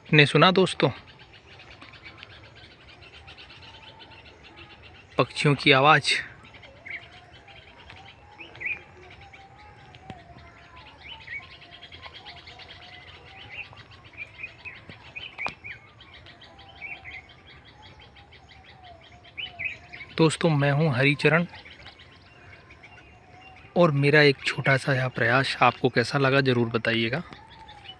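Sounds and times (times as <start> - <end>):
birds chirping: 0.0 - 27.9
lower wavering bird call: 1.0 - 23.8.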